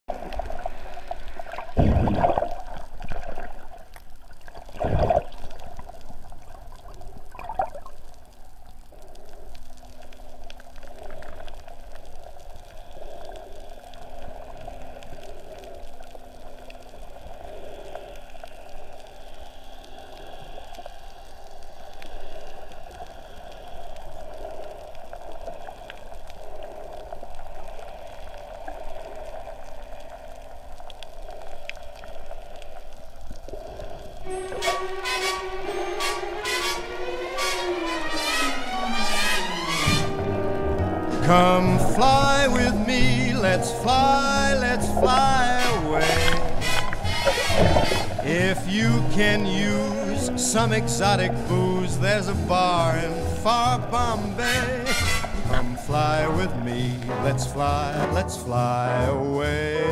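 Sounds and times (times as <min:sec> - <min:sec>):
underwater gurgling and bubbling: 0:00.1 - 0:58.2
water swishes: 0:00.1 - 0:58.2
muffled water wash: 0:00.1 - 0:59.9.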